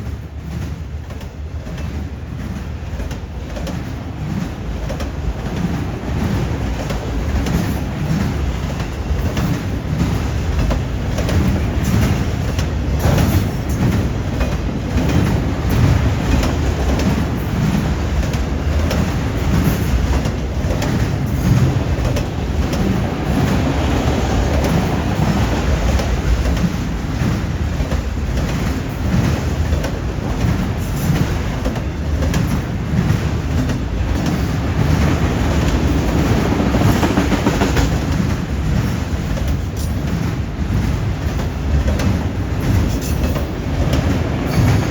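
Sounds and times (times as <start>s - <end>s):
freight train wheels rumbling: 0.0s - 44.9s
wheels clicking over rail joints: 0.0s - 44.9s.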